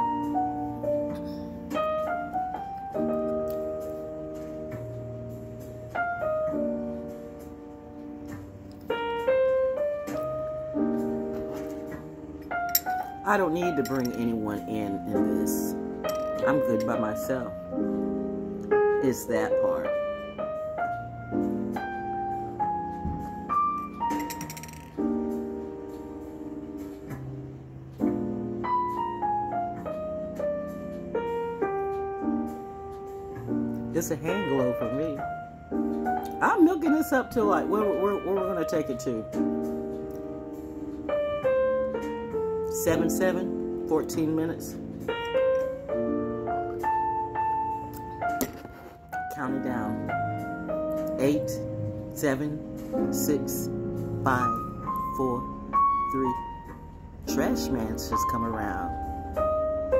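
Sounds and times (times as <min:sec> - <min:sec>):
slow piano music: 0:00.0 - 0:59.9.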